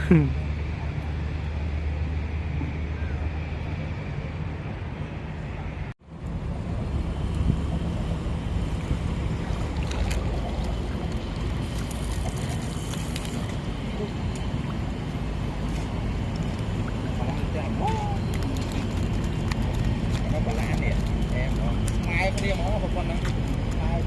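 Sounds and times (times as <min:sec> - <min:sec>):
small boat motor running: 0:00.0 - 0:24.0.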